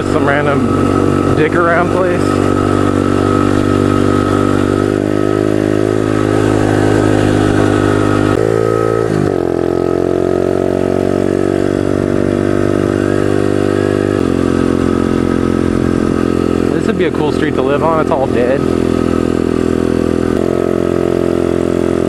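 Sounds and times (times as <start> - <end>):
pit bike engine running: 0.0 - 22.0.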